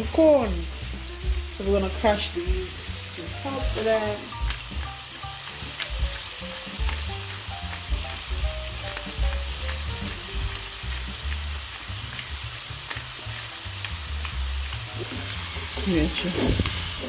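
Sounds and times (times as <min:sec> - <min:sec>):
chicken sizzling in oil: 0:00.0 - 0:17.0
oil spitting crackles: 0:00.4 - 0:17.0.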